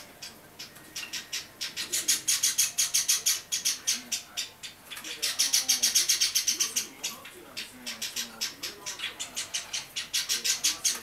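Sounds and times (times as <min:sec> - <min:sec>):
bird chick chirping: 0:00.0 - 0:11.0.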